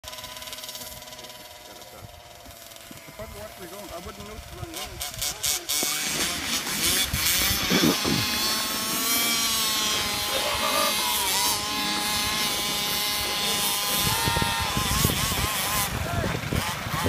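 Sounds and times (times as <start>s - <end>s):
small engine buzzing whine: 0.0s - 17.0s.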